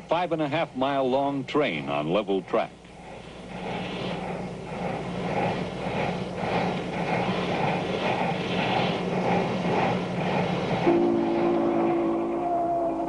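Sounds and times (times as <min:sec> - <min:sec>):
constant low hum: 0:00.0 - 0:13.0
steam locomotive chuffing: 0:00.0 - 0:13.0.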